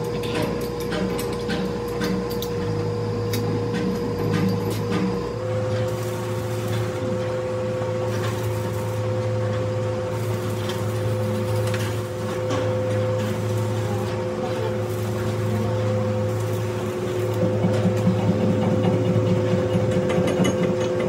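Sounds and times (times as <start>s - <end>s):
metal lathe humming and whining: 0.0s - 21.0s.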